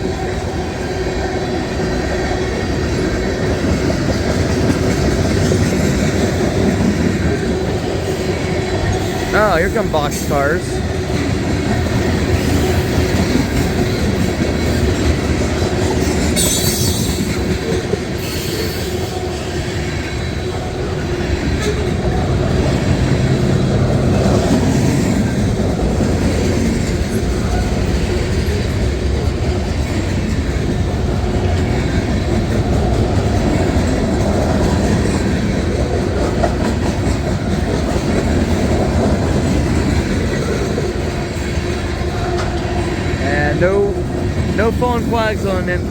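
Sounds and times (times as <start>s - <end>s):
freight cars rolling on rails: 0.0s - 45.9s.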